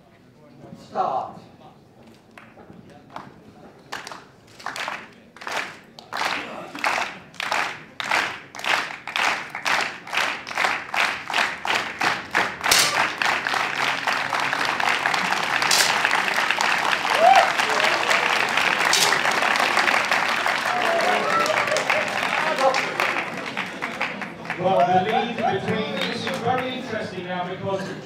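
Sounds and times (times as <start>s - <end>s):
continuous applause: 2.2s - 27.4s
spectators clapping in unison: 2.3s - 27.1s.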